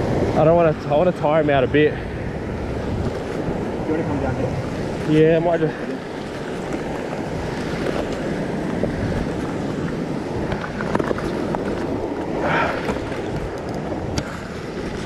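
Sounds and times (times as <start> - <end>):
ocean swell breaking on rocks: 0.0 - 15.0
wind buffeting microphone: 0.0 - 15.0.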